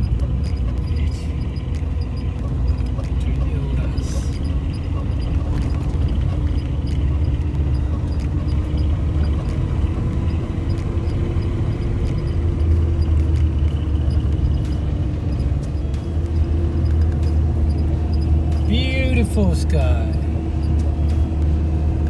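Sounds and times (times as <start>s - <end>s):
vehicle engine rumbling under load: 0.0s - 22.0s.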